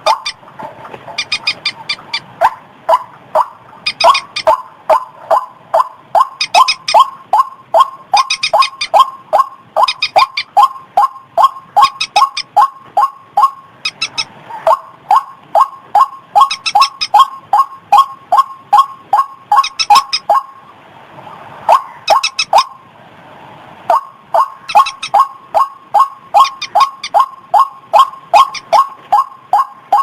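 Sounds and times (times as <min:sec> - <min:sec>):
bird calling rising notes: 0:00.0 - 0:00.4, 0:01.1 - 0:02.3, 0:02.9 - 0:20.7, 0:21.6 - 0:22.8, 0:23.9 - 0:30.0
higher clicking bird notes: 0:00.0 - 0:20.5, 0:23.9 - 0:30.0.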